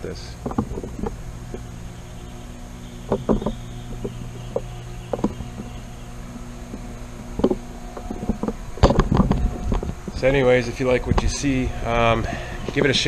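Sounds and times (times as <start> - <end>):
soft irregular thumps: 0.0 - 13.0
steady low hum: 0.0 - 13.0.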